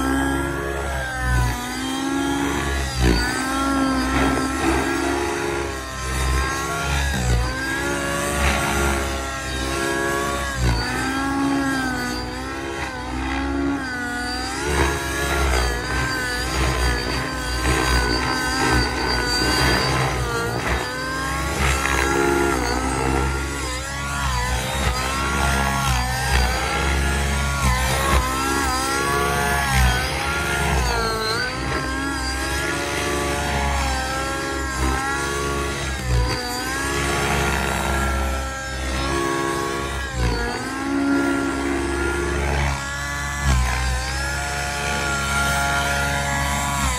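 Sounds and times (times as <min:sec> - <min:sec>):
high gear whine: 0:00.0 - 0:46.9
model helicopter engine and rotors: 0:00.0 - 0:46.9.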